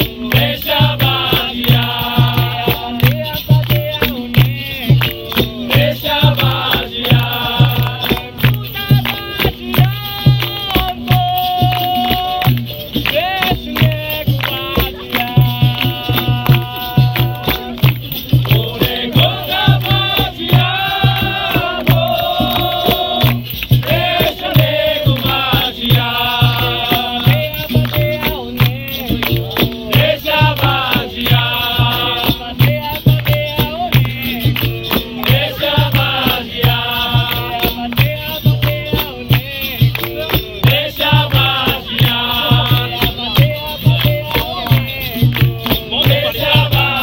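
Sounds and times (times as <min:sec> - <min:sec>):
low drum beat: 0:00.0 - 0:47.0
voices singing a chant: 0:00.0 - 0:47.0.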